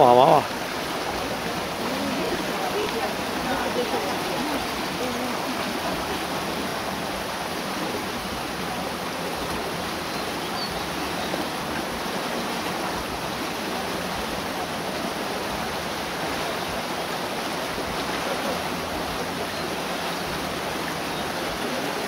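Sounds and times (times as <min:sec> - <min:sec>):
water rushing through mill channel: 0:00.0 - 0:22.0.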